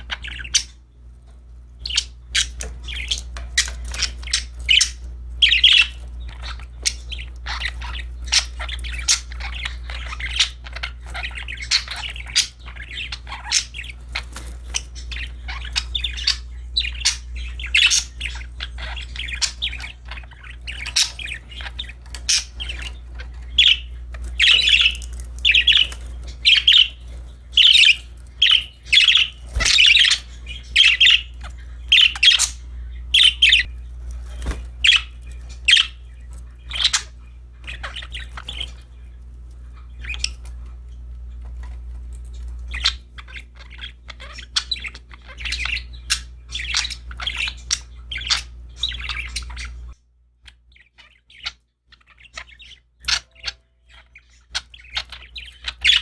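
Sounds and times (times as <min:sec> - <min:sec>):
sharp squawky bird calls: 0:00.0 - 0:00.9, 0:01.8 - 0:39.1, 0:42.7 - 0:56.0
budgerigars chirping: 0:00.0 - 0:56.0.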